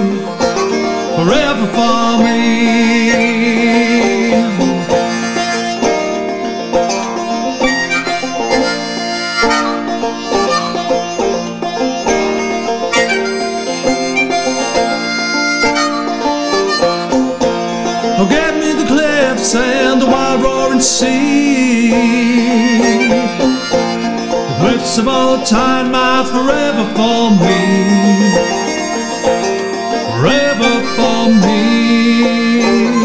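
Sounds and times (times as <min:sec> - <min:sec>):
clawhammer banjo: 0:00.0 - 0:33.0
harmonica melody: 0:00.0 - 0:33.0.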